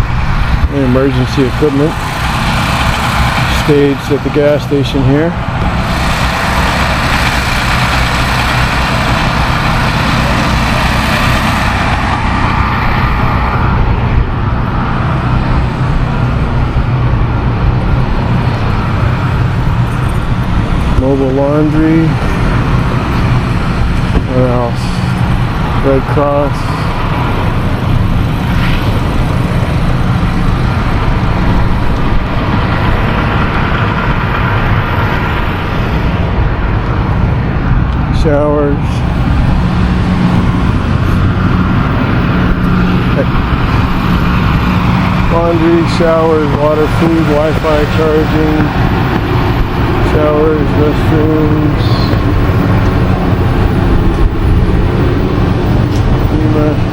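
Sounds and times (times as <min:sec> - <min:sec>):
road noise: 0:00.0 - 0:56.9
vehicle engine running: 0:00.0 - 0:56.9.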